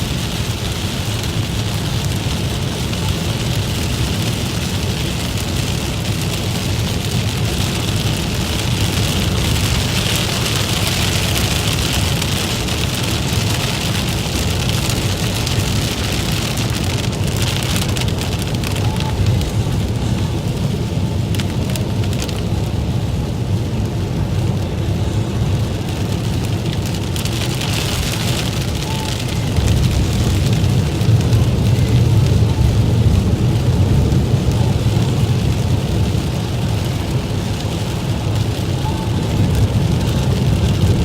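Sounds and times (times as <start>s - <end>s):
constant low rumble: 0.0s - 41.0s
rain falling: 0.0s - 41.0s.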